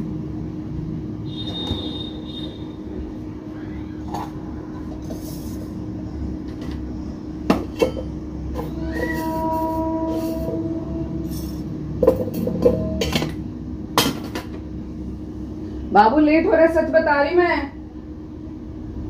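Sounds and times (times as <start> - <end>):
low rumble and hum: 0.0 - 19.0.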